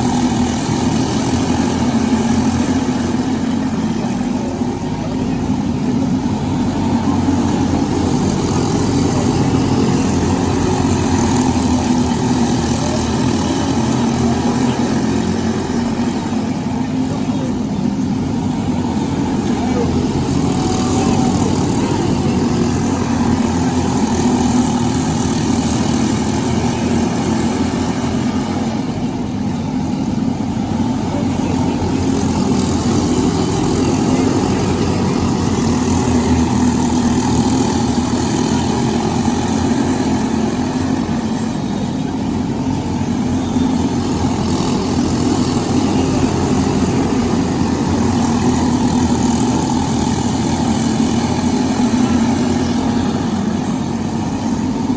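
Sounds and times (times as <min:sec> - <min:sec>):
kart engine running hard: 0:00.0 - 0:54.9.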